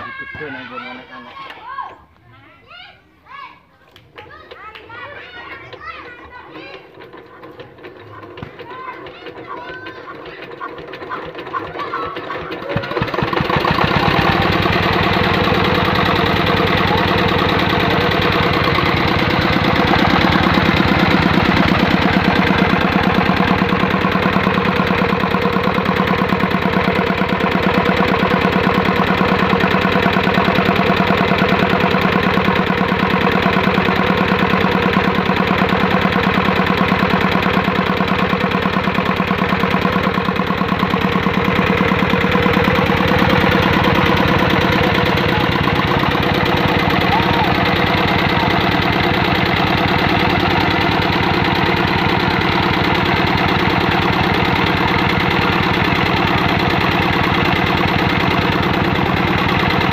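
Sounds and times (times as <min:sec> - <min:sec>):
single-cylinder diesel engine running: 0:04.5 - 0:59.9.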